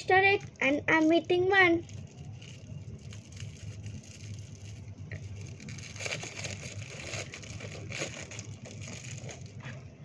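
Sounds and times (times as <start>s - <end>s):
wrapper crinkling: 0.0s - 9.9s
steady low hum: 0.0s - 10.0s.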